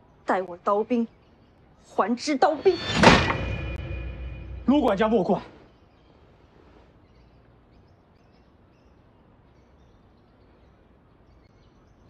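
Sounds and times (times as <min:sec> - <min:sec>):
faint bird chirps: 0:00.0 - 0:12.0
faint outdoor ambience: 0:00.0 - 0:12.0.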